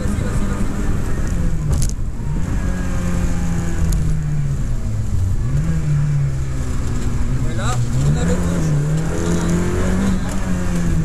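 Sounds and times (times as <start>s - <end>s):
car engine running hard: 0.0s - 11.0s
road and wind noise: 0.0s - 11.0s.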